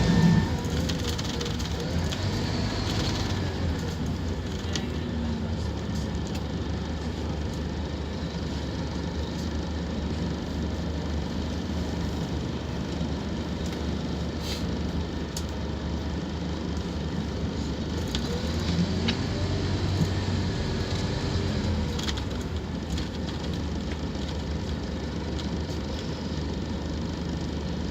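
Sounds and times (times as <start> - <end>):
bus engine running: 0.0 - 27.9.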